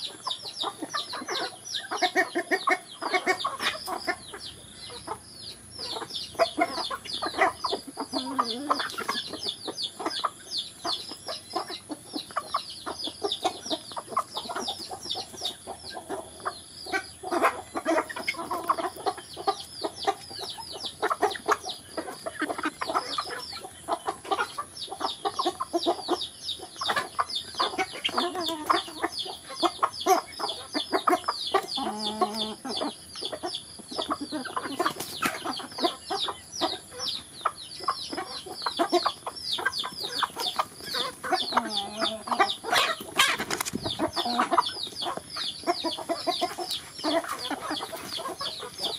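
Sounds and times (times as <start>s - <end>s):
chickens clucking: 0.0s - 48.9s
chicks peeping: 0.0s - 48.9s.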